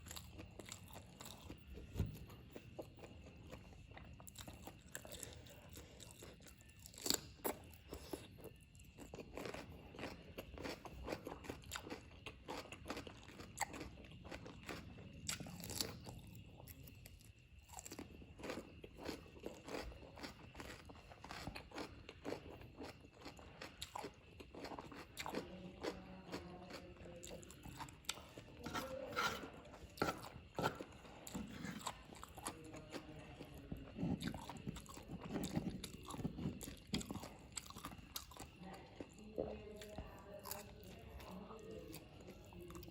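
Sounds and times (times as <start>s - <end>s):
person chewing noodles: 0.0s - 42.9s.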